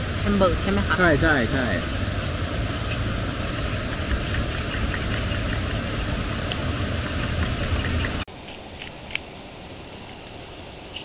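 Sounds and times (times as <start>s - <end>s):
gas burner flame rumble: 0.0s - 11.0s.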